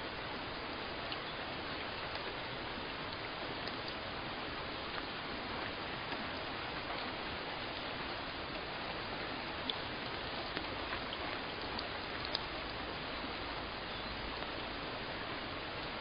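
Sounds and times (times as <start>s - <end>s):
steady rain: 0.0s - 16.0s
water drips: 0.0s - 16.0s.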